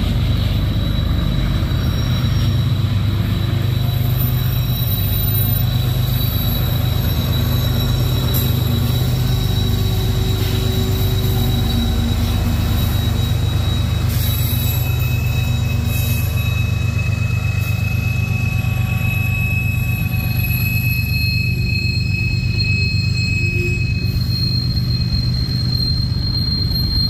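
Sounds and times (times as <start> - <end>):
heavy diesel engine rumble: 0.0 - 27.0
high-pitched whine: 0.0 - 27.0
train wheels rolling on rails: 0.0 - 27.0.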